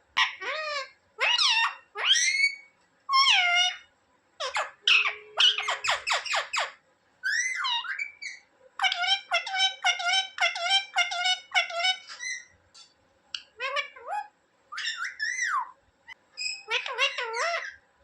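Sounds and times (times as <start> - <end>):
parrot calling: 0.2 - 12.6, 13.3 - 17.8.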